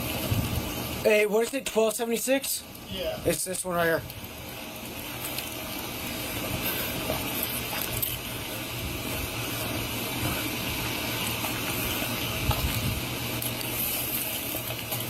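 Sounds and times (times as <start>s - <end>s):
hissing background noise: 0.0s - 15.0s.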